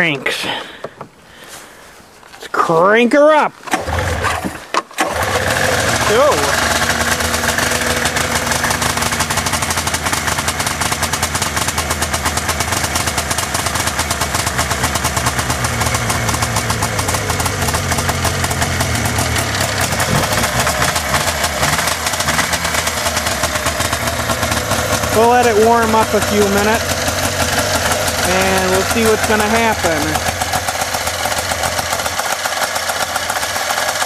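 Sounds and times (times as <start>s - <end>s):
snowmobile engine idling: 3.8s - 34.0s.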